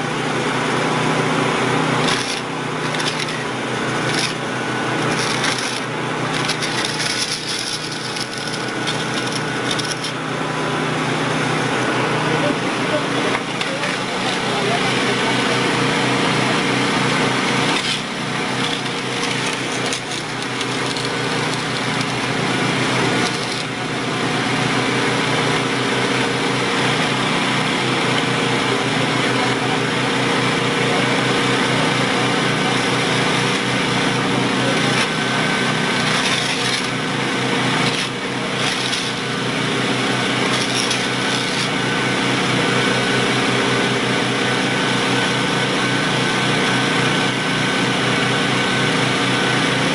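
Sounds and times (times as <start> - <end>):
motor humming: 0.0 - 49.9.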